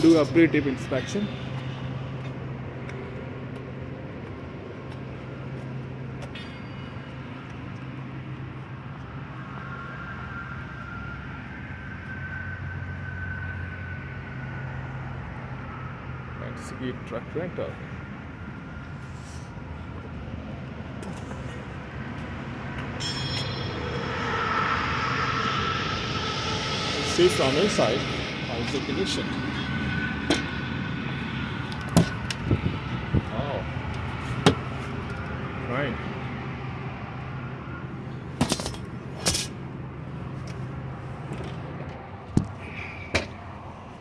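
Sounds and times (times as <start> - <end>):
steady low hum: 0.0 - 44.0
vehicle engine running with whine: 0.0 - 44.0.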